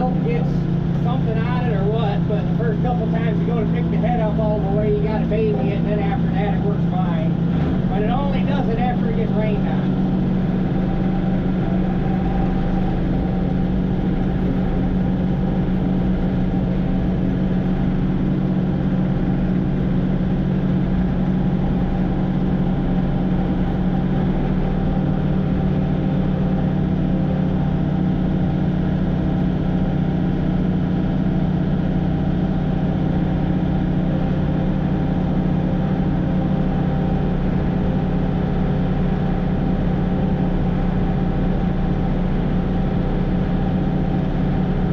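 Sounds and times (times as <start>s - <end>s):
diesel engine running steadily: 0.0s - 44.9s.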